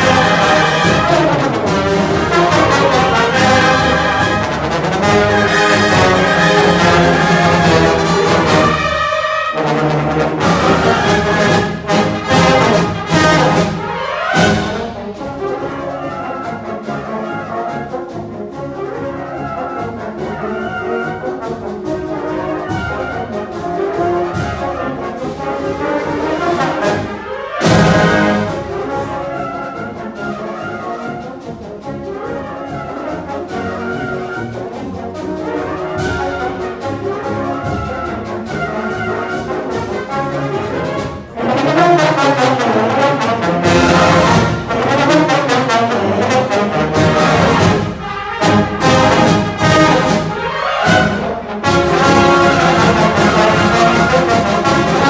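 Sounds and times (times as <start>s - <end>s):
concert band playing circus march: 0.0s - 55.0s.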